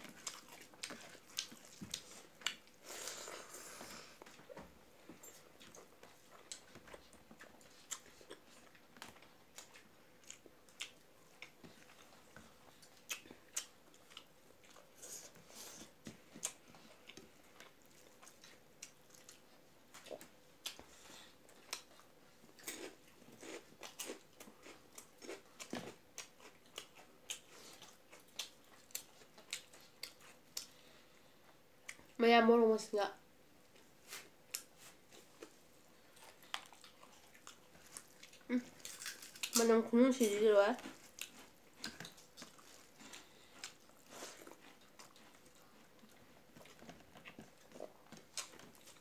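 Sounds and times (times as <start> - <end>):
wet chewing and lip smacks: 0.0 - 2.9, 5.3 - 30.8, 33.7 - 49.0.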